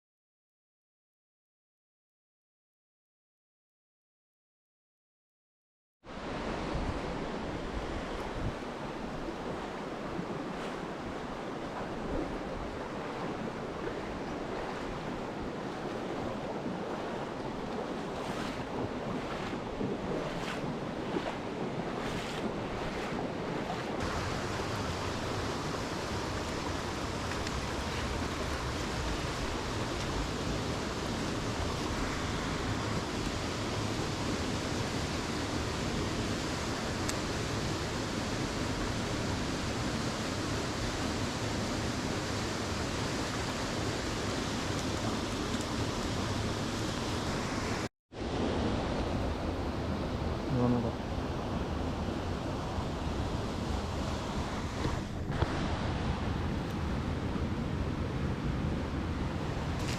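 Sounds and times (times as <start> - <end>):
mountain stream rushing: 6.1 - 59.9.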